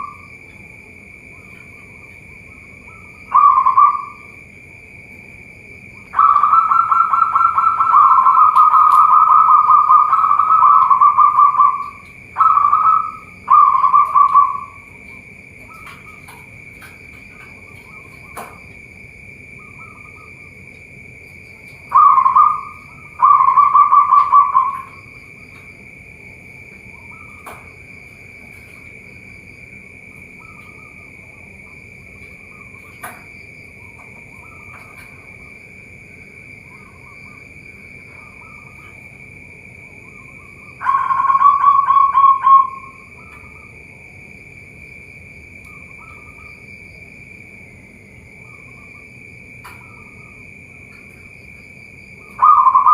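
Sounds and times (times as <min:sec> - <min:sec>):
doves cooing: 0:00.0 - 0:43.9, 0:48.4 - 0:52.9
high-pitched whine: 0:00.0 - 0:52.9.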